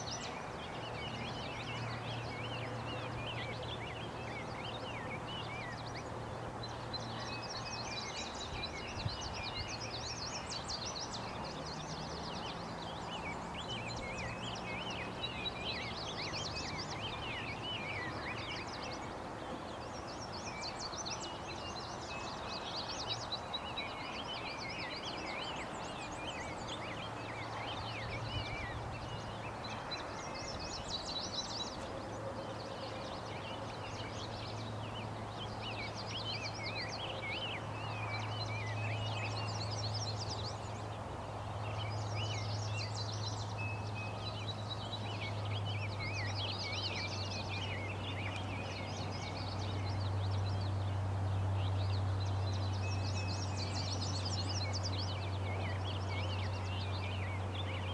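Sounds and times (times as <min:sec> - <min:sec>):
birds singing and chirping: 0:00.0 - 0:57.9.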